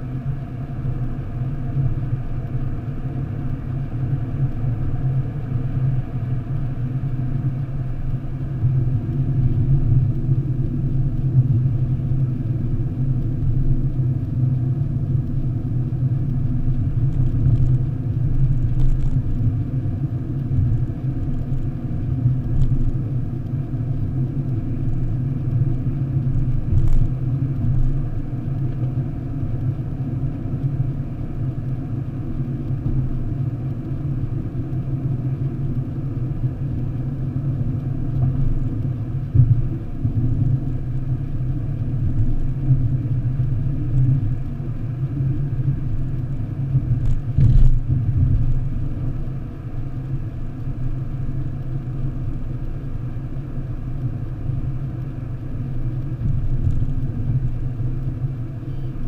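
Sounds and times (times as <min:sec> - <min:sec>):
car interior road rumble: 0:00.1 - 0:59.0.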